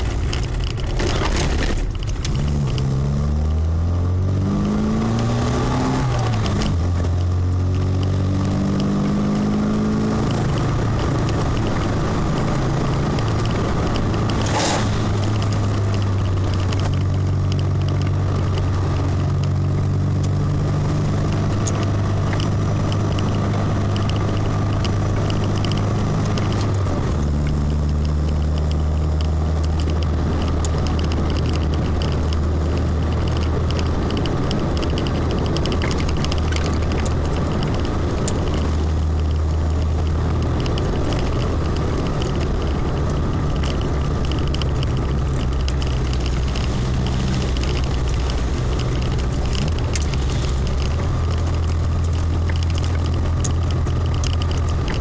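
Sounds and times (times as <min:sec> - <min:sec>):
tyres on wet road: 0:00.0 - 0:55.0
vehicle engine running: 0:00.0 - 0:55.0.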